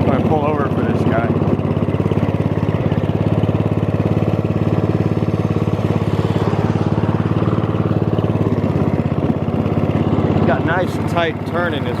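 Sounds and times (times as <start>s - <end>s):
riding lawn mower engine running: 0.0s - 12.0s.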